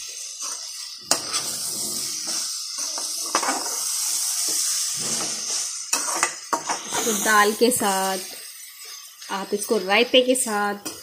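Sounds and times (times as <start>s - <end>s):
food sizzling in pan: 0.0s - 11.0s
metal spatula scraping pan: 0.1s - 9.8s.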